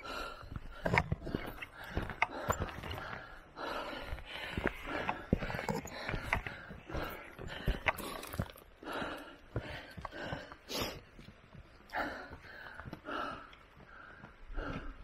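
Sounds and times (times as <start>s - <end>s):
footsteps on gravel: 0.0s - 13.3s
person breathing hard: 0.0s - 15.0s.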